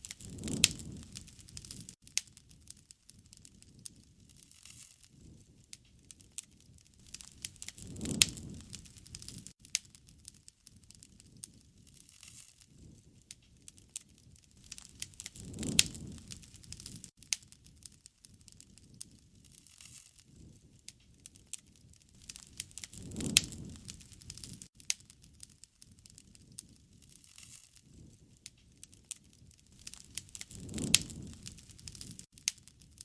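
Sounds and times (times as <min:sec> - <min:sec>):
bonfire crackling and popping: 0:00.0 - 0:33.0.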